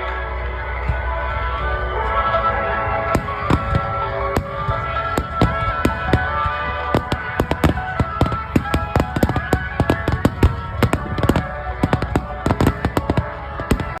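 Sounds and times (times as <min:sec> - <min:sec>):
music playing: 0:00.0 - 0:14.0
fireworks bursting: 0:00.8 - 0:14.0.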